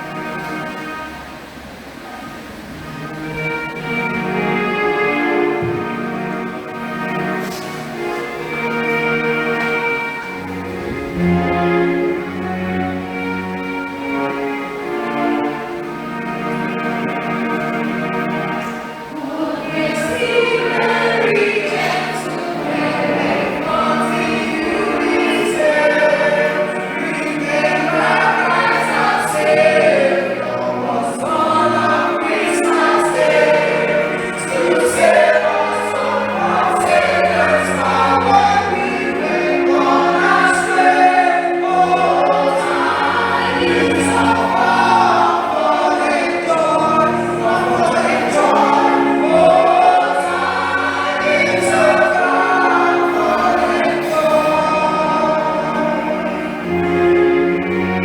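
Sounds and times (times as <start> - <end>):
choir singing a carol: 0.0 - 58.0
musical accompaniment: 0.0 - 58.0.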